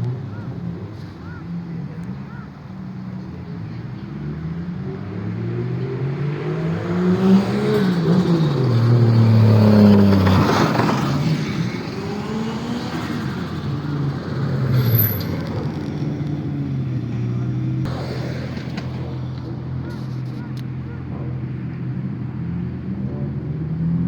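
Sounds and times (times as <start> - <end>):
car engine revving: 1.3 - 24.0.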